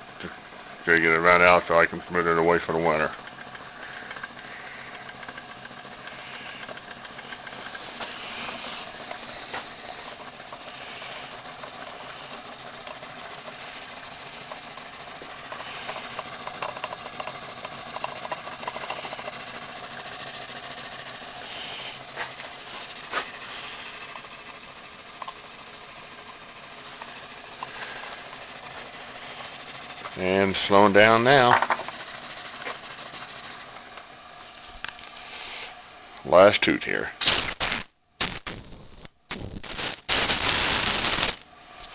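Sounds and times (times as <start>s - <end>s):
steam engine hissing: 0.0s - 33.8s, 35.2s - 37.6s
piston and flywheel rattling: 0.0s - 34.0s, 37.2s - 41.5s.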